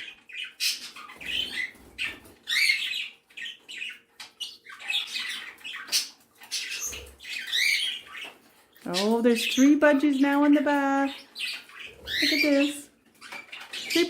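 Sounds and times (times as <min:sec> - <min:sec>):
pet birds chirping and squawking: 0:00.0 - 0:14.0.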